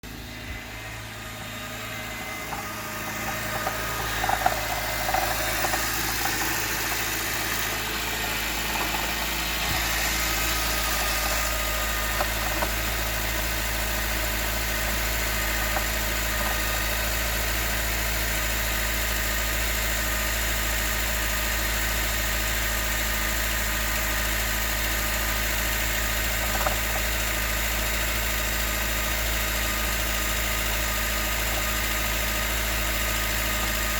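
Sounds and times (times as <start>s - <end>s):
car engine running: 0.0s - 33.9s
engine knocking: 0.0s - 33.9s.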